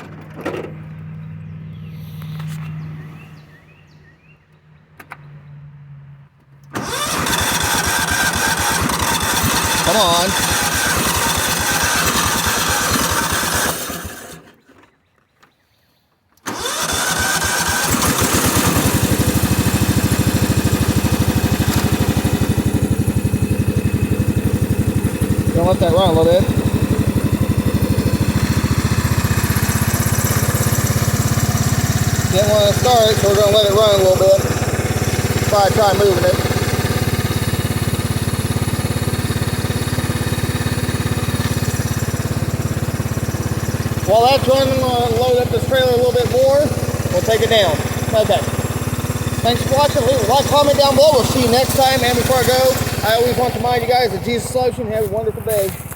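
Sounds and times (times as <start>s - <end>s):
riding mower engine starting and running: 0.0s - 3.8s, 6.4s - 15.0s, 16.4s - 55.9s.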